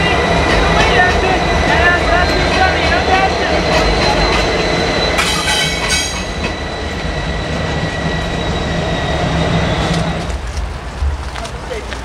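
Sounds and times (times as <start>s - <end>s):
high squeal: 0.0s - 10.4s
locomotive engine rumble: 0.0s - 12.0s.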